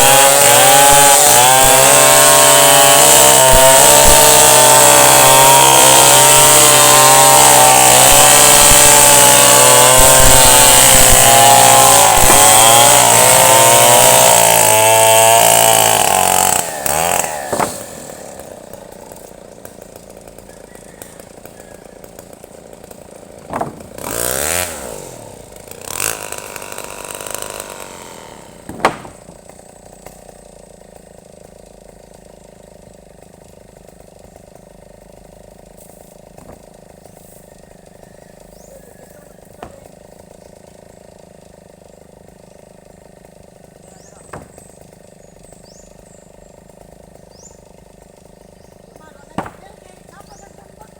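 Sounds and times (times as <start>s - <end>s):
chainsaw cutting into tree: 0.0s - 50.9s.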